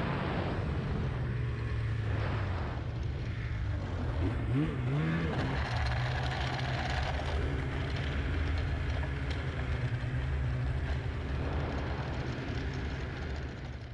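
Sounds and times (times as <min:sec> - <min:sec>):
snowmobile engine running: 0:00.0 - 0:13.9.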